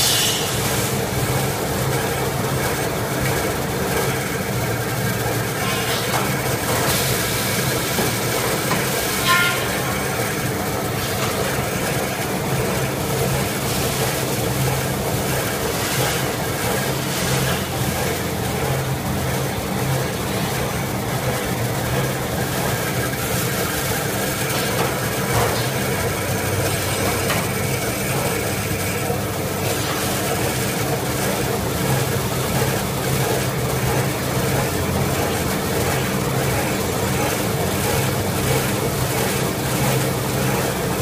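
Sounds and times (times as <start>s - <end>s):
machine hum and rattle: 0.0s - 41.0s.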